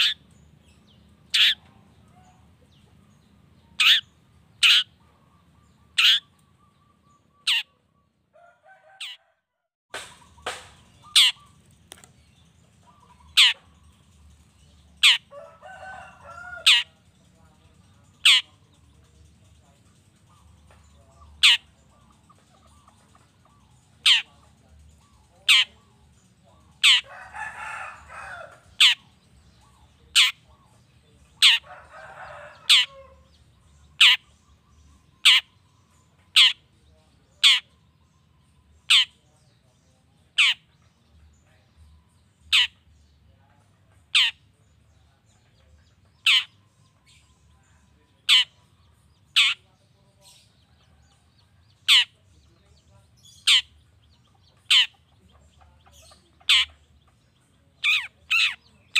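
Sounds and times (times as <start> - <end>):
bird harsh rasping chatter: 0.0 - 7.9, 9.9 - 58.9.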